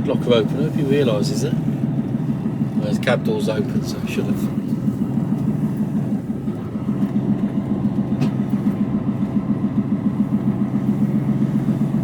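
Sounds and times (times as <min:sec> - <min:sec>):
diesel truck engine drone: 0:00.0 - 0:12.0.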